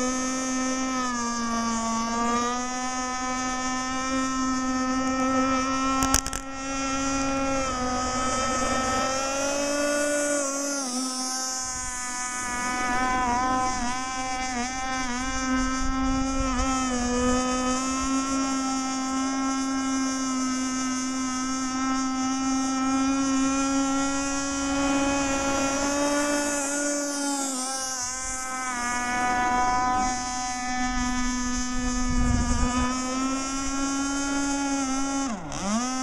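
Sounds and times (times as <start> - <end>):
two-stroke boat engine whine: 0.0 - 36.0.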